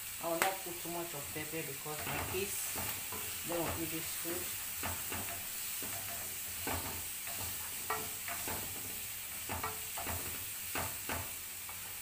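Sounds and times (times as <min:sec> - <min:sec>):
vegetables sizzling: 0:00.0 - 0:12.0
wooden spatula scraping a pan: 0:01.1 - 0:12.0.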